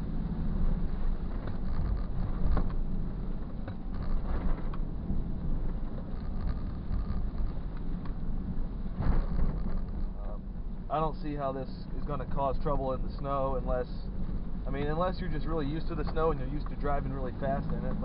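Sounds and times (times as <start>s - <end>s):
tyres and drivetrain rumbling: 0.0s - 18.0s.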